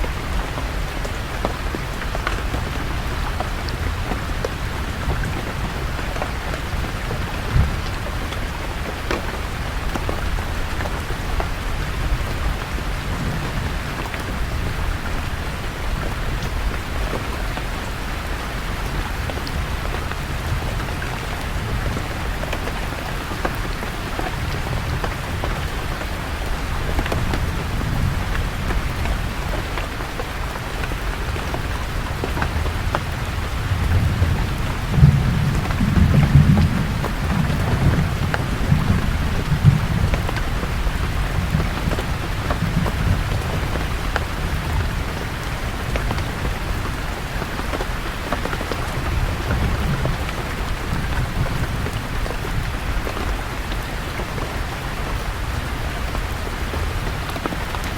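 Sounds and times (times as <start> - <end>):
low rumble of thunder: 0.0 - 54.5
rain falling on leaves: 0.0 - 57.9
raindrop ticks: 0.0 - 57.9.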